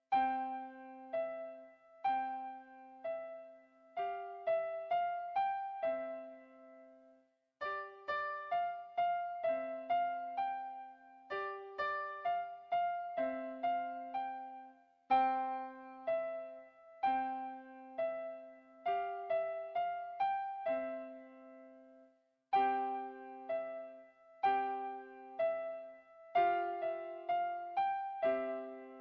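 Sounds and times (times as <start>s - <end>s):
piano melody: 0.0s - 29.0s.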